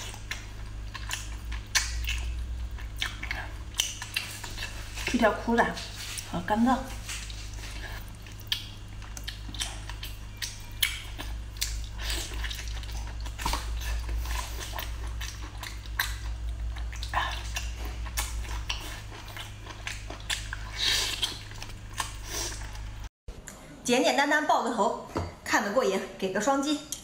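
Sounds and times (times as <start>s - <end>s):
wet chewing and smacking: 0.0s - 23.1s
steady low hum: 0.0s - 27.0s.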